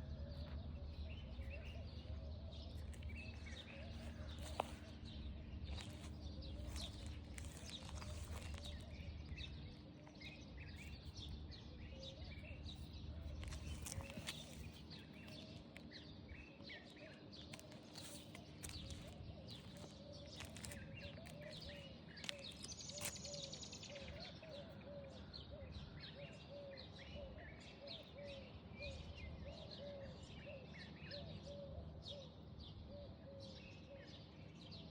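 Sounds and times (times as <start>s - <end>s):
birds chirping: 0.0s - 29.8s.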